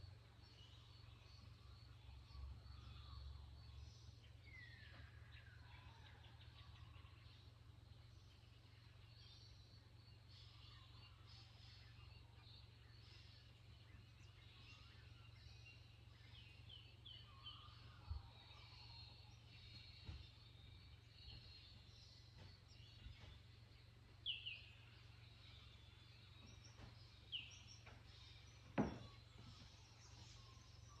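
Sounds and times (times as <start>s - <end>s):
bird chirps: 0.0s - 31.0s
faint steady low hum: 0.0s - 31.0s.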